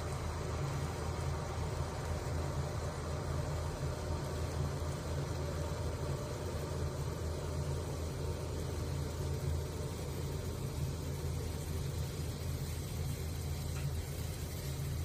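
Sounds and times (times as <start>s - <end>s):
gas stove burner rumbling: 0.0s - 15.0s
syrup simmering: 0.0s - 15.0s.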